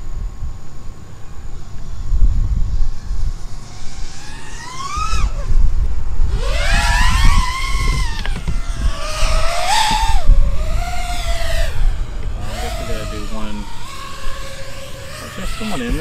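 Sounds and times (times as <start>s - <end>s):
wind rumble on microphone: 0.0s - 16.0s
drone motors whining: 0.6s - 16.0s.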